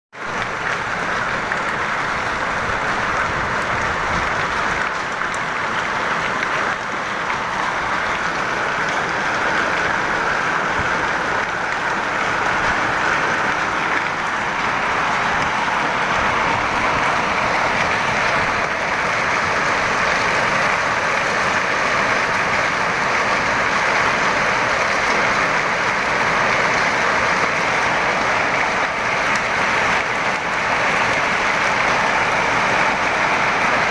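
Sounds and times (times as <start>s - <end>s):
hail and heavy rain pelting: 0.2s - 33.9s.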